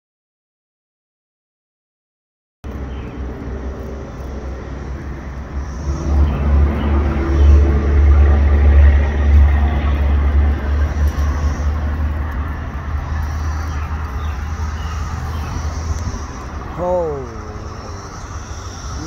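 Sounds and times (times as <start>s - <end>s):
loud low rumble: 2.7s - 19.0s.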